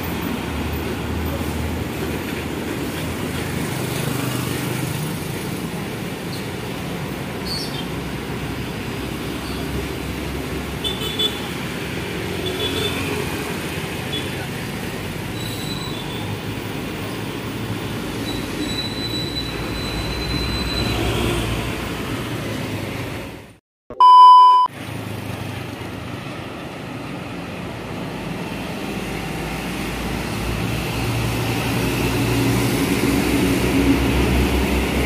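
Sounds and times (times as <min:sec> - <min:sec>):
heavy road traffic: 0:00.0 - 0:35.0.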